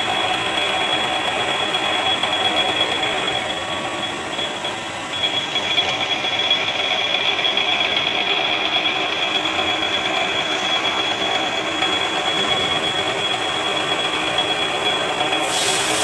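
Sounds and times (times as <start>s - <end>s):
drill whining: 0.0s - 16.0s.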